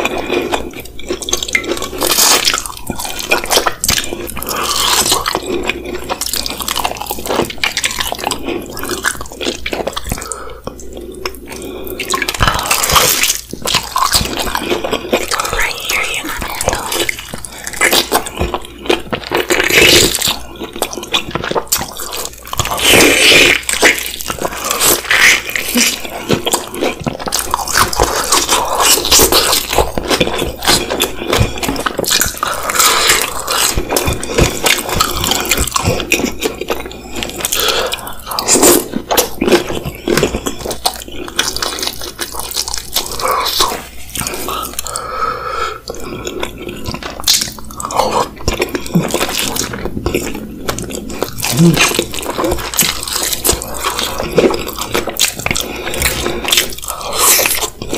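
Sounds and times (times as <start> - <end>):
biting and chewing: 0.0 - 45.1, 45.8 - 57.9.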